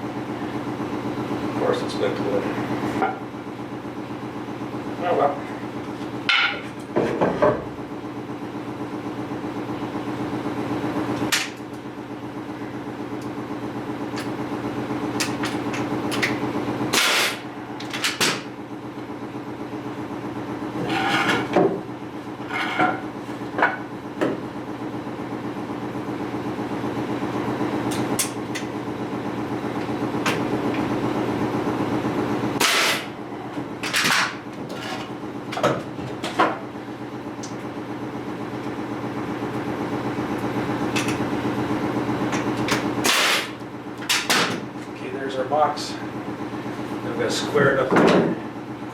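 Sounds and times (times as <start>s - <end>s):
motor hum: 0.0s - 48.9s.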